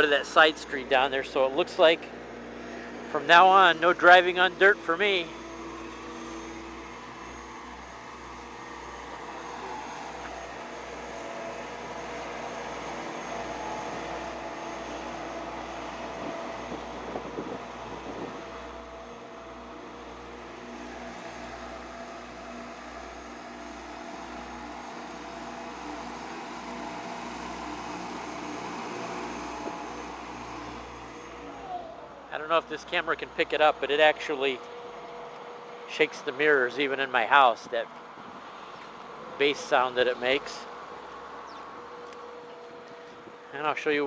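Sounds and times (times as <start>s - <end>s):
road roller diesel engine droning: 0.0s - 44.0s.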